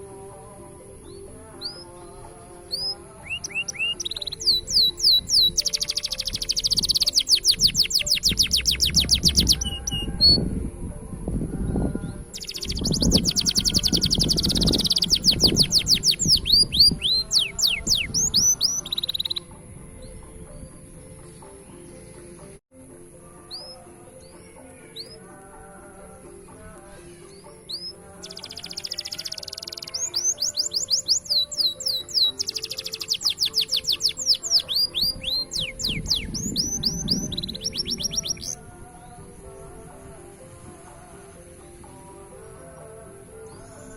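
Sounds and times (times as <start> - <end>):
canary singing trills: 0.0 - 10.8, 11.6 - 22.6, 23.3 - 43.9
soft background music: 0.0 - 43.9.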